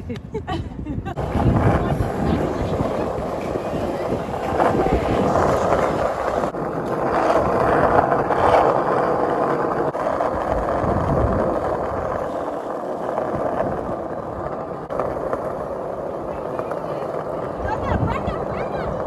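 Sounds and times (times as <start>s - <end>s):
wind buffeting microphone: 0.0s - 19.0s
skate wheels rolling on pavement: 1.1s - 19.0s.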